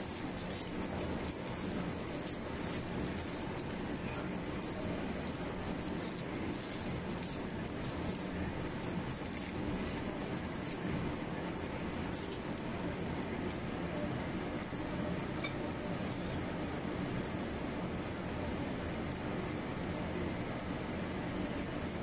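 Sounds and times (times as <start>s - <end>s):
fritters sizzling in oil: 0.0s - 22.0s.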